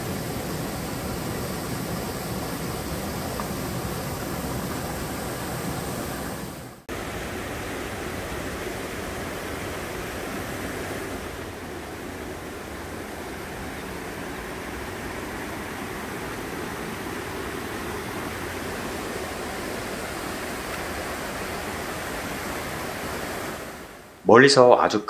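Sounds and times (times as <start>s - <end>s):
stream flowing over rocks: 0.0s - 24.1s.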